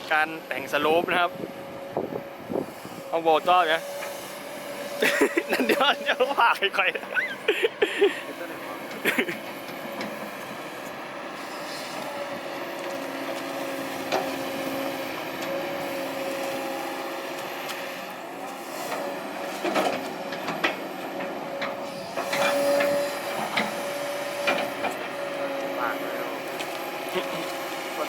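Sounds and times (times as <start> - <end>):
excavator engine and hydraulics whine: 0.0 - 28.0.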